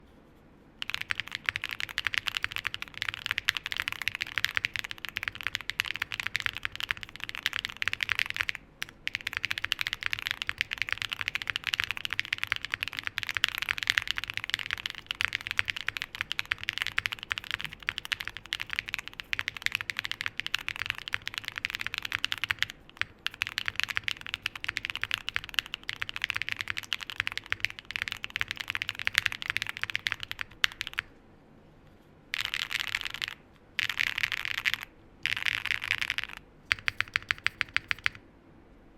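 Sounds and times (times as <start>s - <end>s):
fast typing on mechanical keyboard: 0.8s - 31.1s, 32.4s - 38.2s.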